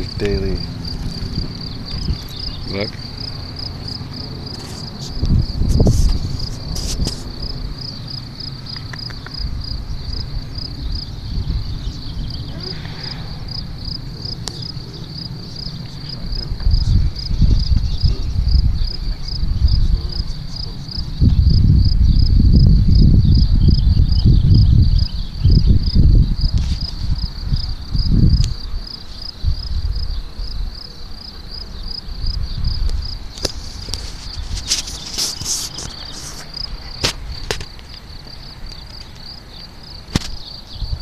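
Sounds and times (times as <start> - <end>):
low rumbling noise: 0.0 - 38.7
cricket chirping: 0.0 - 41.0.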